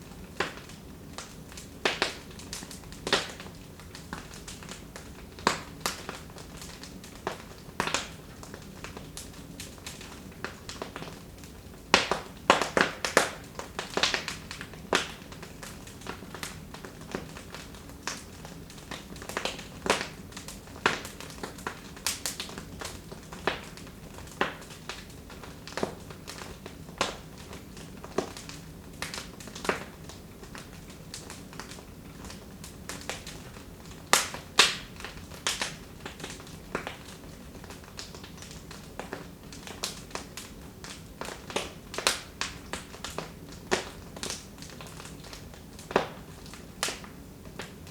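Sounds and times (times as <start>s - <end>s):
low steady hiss: 0.0s - 47.9s
wood fire crackling: 0.0s - 47.9s.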